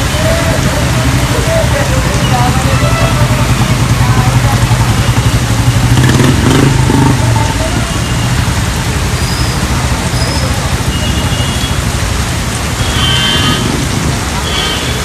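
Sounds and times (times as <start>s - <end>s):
heavy rain: 0.0s - 15.0s
running water: 0.0s - 15.0s
vehicle engine rumbling: 0.0s - 15.0s.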